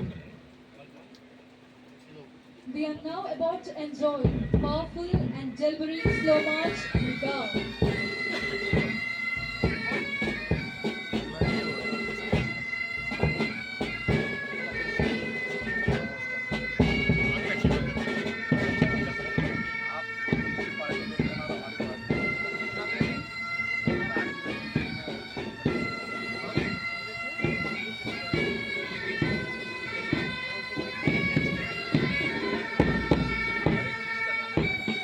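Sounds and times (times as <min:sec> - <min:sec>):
bagpipes playing melody: 0:02.7 - 0:35.0
drums beating: 0:02.8 - 0:35.0.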